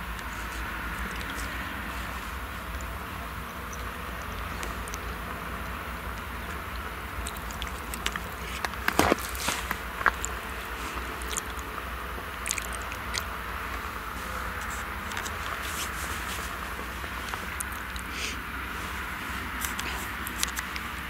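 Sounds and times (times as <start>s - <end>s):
sharp crackling and crunching clicks: 0.0s - 18.1s, 19.4s - 21.0s
distant tractor rumble: 0.0s - 21.0s.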